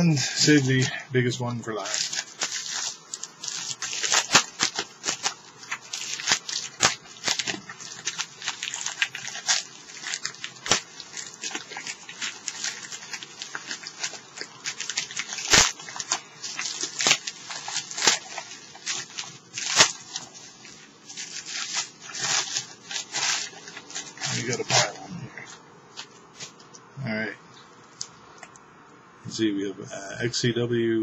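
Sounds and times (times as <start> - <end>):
packaging crinkling and rustling: 1.7 - 26.8.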